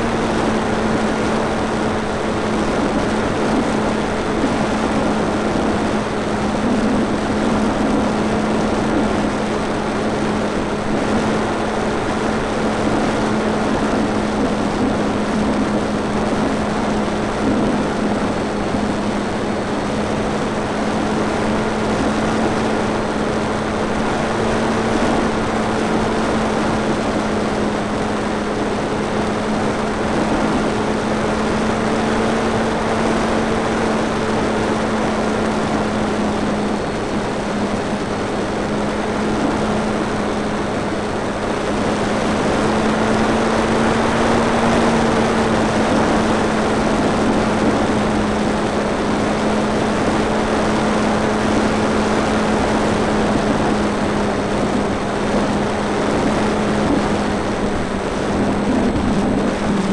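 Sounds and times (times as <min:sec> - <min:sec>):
electric motor and propeller drone: 0:00.0 - 0:59.9
rush of air noise: 0:00.0 - 0:59.9.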